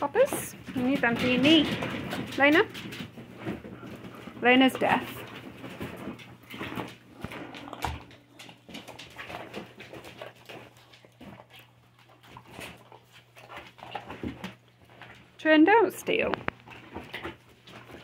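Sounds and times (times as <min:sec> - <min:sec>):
dogs moving about: 0:00.0 - 0:15.4.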